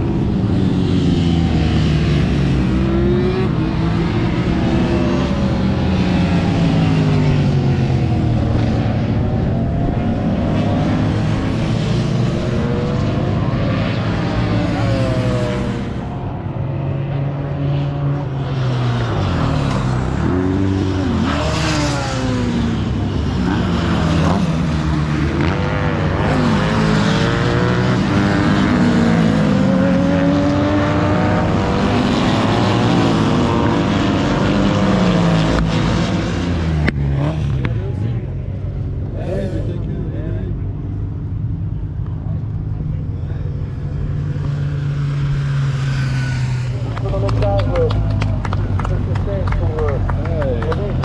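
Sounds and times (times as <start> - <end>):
racing motorcycles passing: 0.0 - 51.0.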